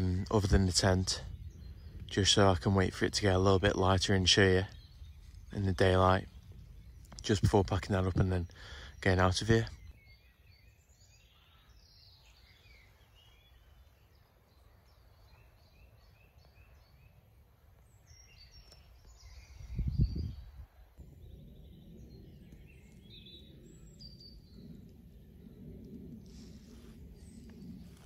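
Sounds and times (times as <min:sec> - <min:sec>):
songbirds chirping and trilling: 0:00.0 - 0:28.0.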